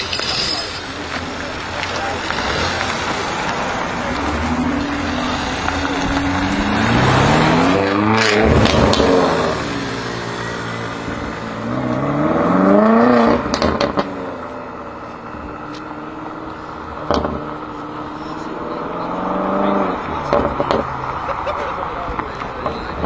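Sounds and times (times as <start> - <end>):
car engine accelerating hard: 0.0 - 23.0
exhaust crackles: 0.0 - 23.0.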